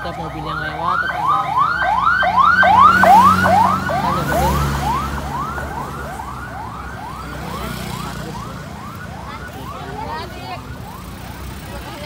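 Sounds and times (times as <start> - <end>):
siren yelping: 0.0 - 12.0
vehicle engine rumbling: 0.0 - 12.0.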